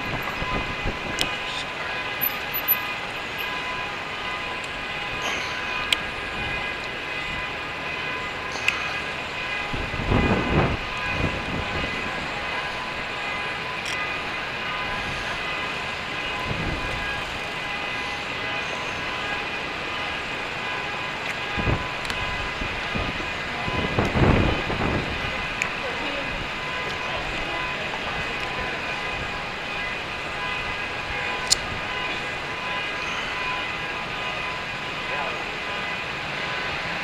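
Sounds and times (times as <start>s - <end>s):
street traffic hum: 0.0s - 37.0s.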